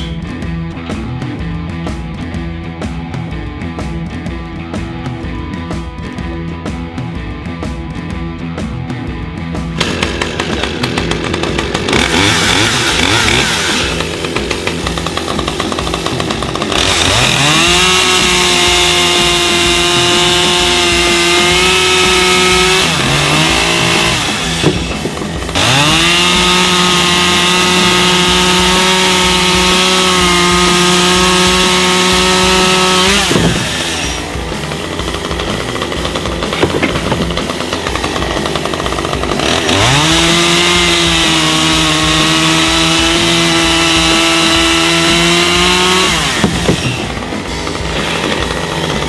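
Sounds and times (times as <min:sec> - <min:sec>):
chainsaw cutting log: 0:09.6 - 0:49.0.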